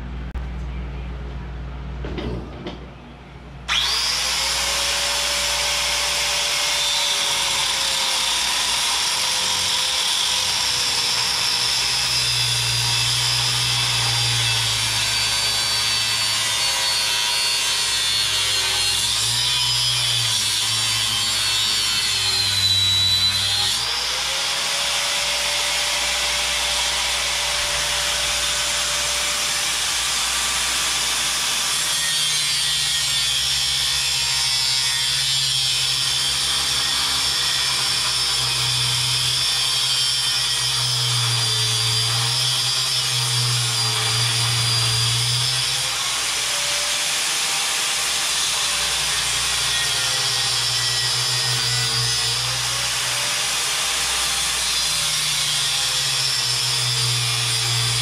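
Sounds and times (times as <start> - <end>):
angle grinder cutting steel: 3.7 - 58.0.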